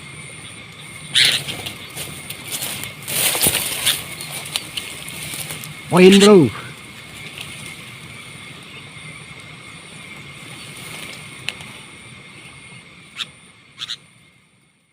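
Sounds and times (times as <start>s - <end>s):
background hiss: 0.0s - 14.9s.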